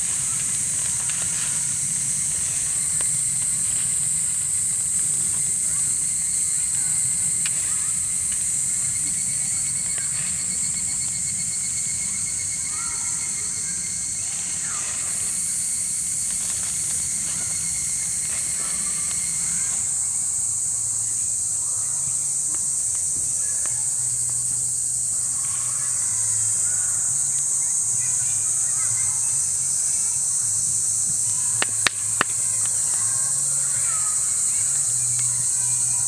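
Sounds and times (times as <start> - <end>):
night insects chorus: 0.0 - 36.0
rapid trilling insect: 0.0 - 36.0.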